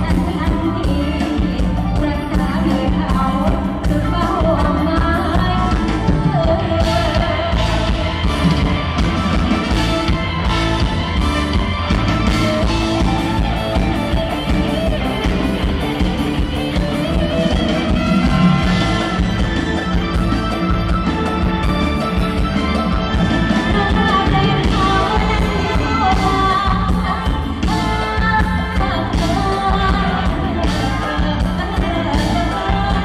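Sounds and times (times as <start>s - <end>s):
live stage band music: 0.0s - 33.0s
person singing: 0.0s - 33.0s.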